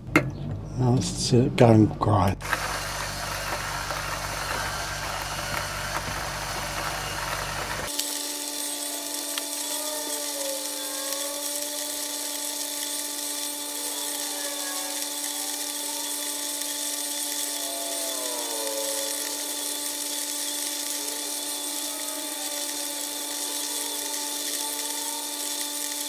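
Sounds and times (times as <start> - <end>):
electric coffee grinder whirring: 2.4 - 26.0.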